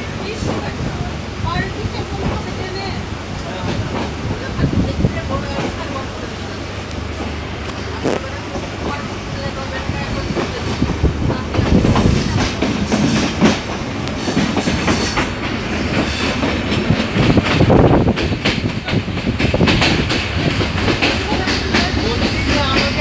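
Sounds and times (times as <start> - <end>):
train wheels rumbling: 0.0 - 23.0
wheels clacking over rail joints: 3.4 - 23.0.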